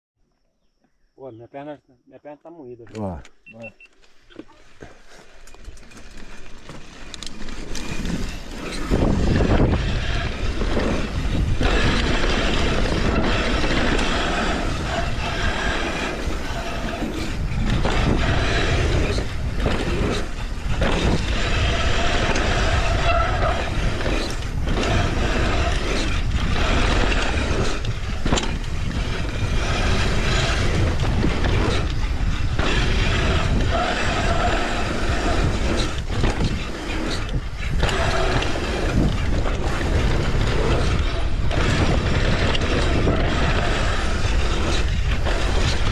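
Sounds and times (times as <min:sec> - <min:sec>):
bike tyres rolling on dirt: 0:03.9 - 0:45.9
bike clattering over bumps: 0:04.8 - 0:45.9
wind on microphone: 0:07.2 - 0:45.9.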